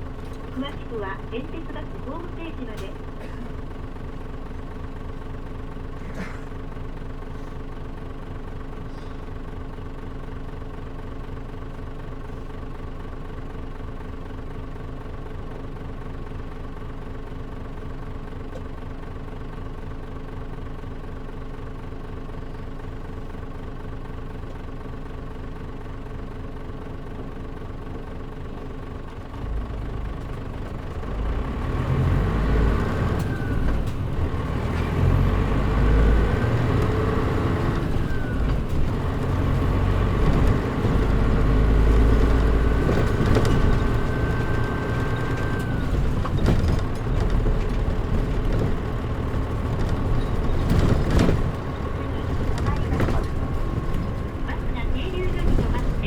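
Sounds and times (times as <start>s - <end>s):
bus diesel engine humming: 0.0s - 56.0s.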